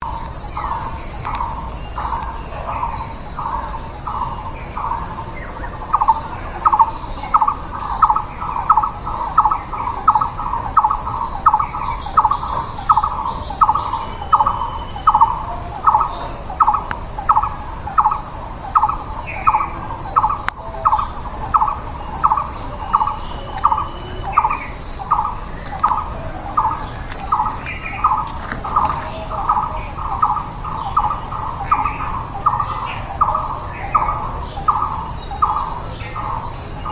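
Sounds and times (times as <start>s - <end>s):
faint bird chirps: 0.0s - 36.9s.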